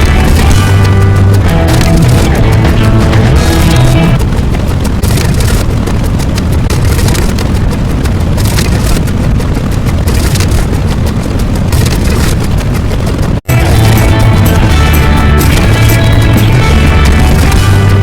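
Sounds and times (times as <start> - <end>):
loud rumbling with crackling hiss: 0.0 - 18.0.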